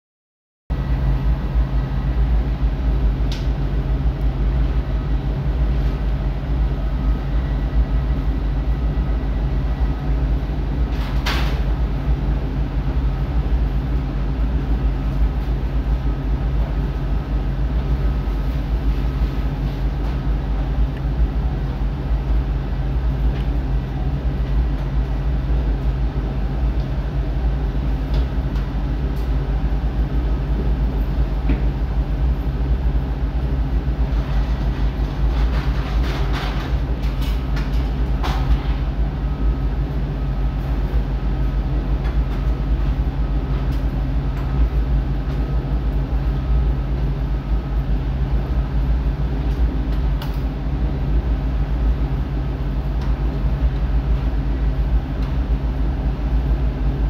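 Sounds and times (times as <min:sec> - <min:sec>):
faint steady hum tones: 0:00.7 - 0:57.0.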